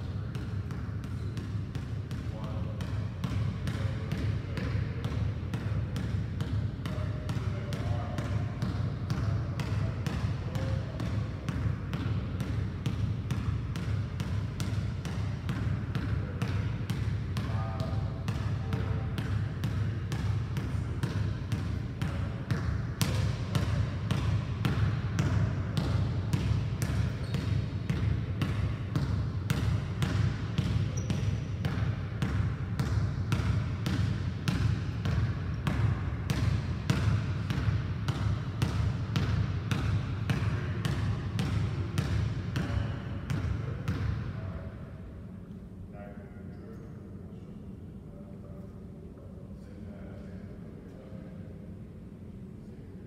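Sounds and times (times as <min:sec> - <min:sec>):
basketball bouncing on wooden floor: 0:00.0 - 0:44.2.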